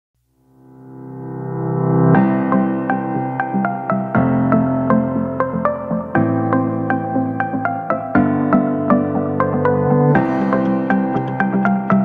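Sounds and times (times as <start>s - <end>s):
calm new-age music: 0.4s - 12.0s.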